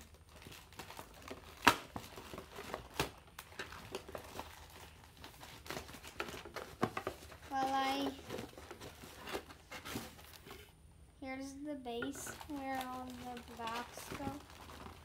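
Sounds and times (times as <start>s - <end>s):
plastic and cardboard crinkling: 0.0s - 10.8s, 12.0s - 15.0s.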